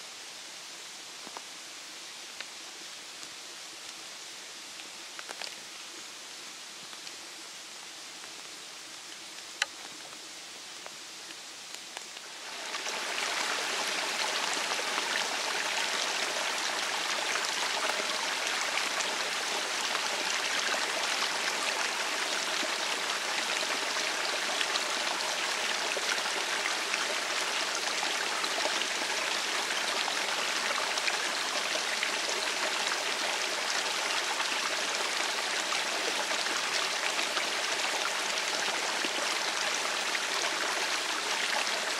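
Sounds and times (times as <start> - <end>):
flowing stream water: 0.0 - 41.9.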